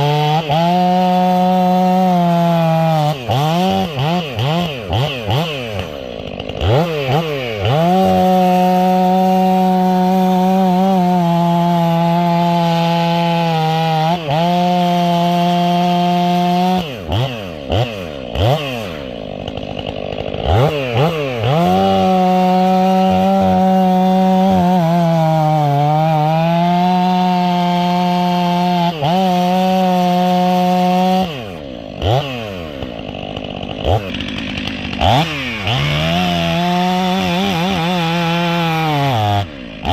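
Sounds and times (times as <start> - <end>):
chainsaw at full throttle: 0.0 - 39.9
chainsaw throttle blips: 0.0 - 39.9.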